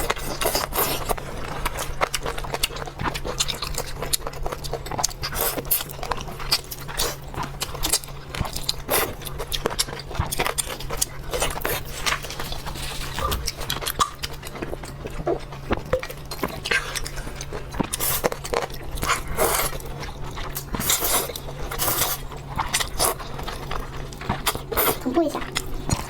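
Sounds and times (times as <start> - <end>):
chewing and crunching: 0.0 - 26.0
low steady hum: 0.0 - 26.0.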